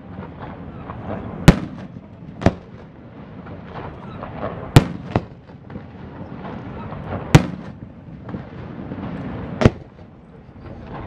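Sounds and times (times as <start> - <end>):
fireworks bursting with bangs: 0.0 - 11.0
steady background noise: 0.0 - 11.0.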